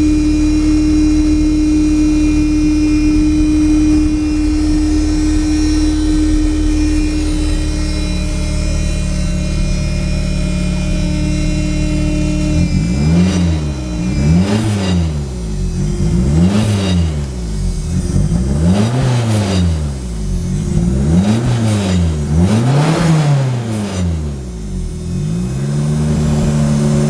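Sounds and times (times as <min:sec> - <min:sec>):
car engine revving and idling: 0:00.0 - 0:27.0.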